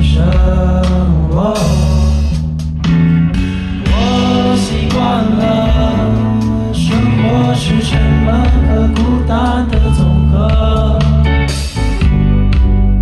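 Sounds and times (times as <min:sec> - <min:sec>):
man singing: 0:00.0 - 0:02.4, 0:03.8 - 0:12.0
rock band playing: 0:00.0 - 0:13.0.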